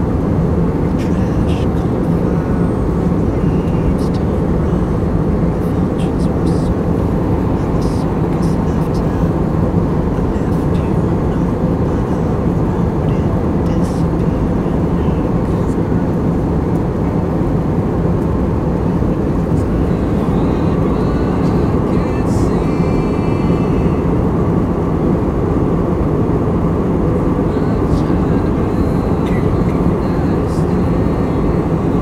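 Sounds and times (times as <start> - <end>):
airliner cabin drone: 0.0 - 32.0.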